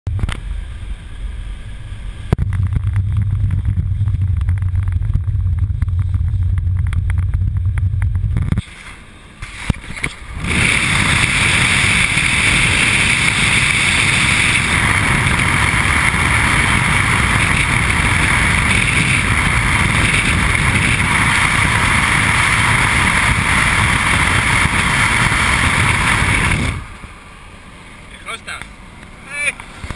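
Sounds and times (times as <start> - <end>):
engine and road noise rumble: 0.0 - 29.9
wind rushing over microphone: 2.2 - 8.7, 9.4 - 27.1.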